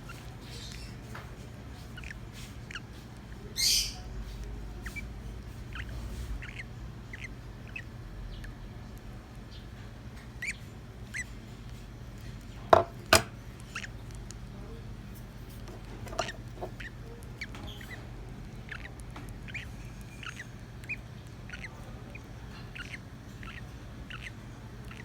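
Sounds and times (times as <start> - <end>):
lovebirds chirping: 0.0 - 25.0.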